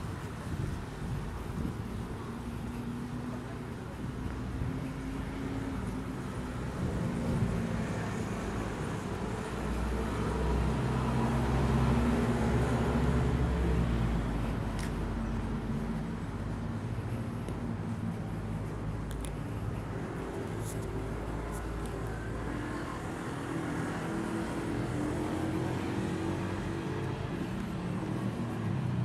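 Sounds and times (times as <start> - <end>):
low rumble of passing cars: 0.0 - 29.0.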